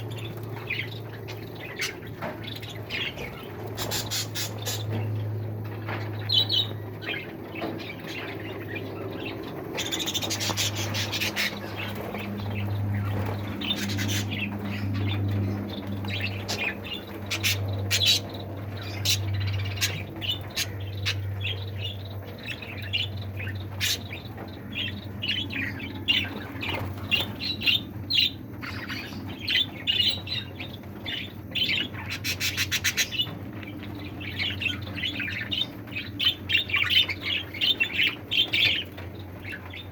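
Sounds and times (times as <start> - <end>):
birds chirping and squawking: 0.0 - 39.9
steady low hum: 0.0 - 39.9.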